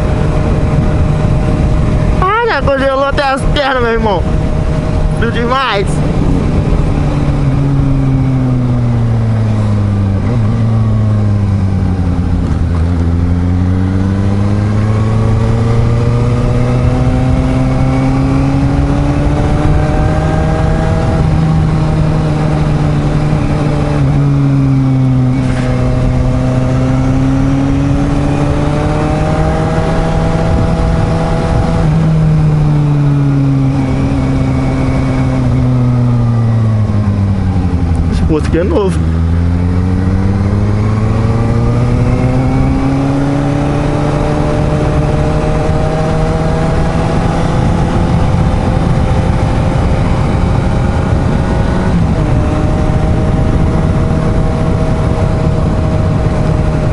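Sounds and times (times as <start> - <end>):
motorcycle engine revving through gears: 0.0 - 56.9.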